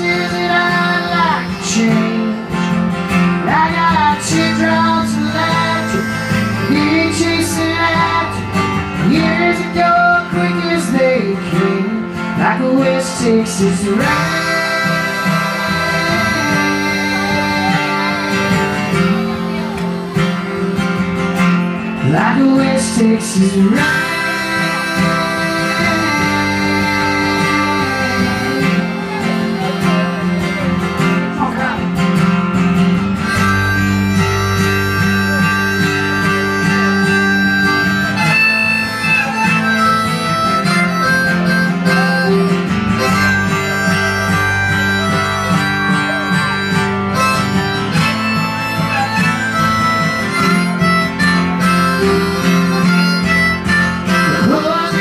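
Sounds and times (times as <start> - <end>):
harmonica solo: 0.0 - 55.0
strummed acoustic guitar: 0.0 - 55.0.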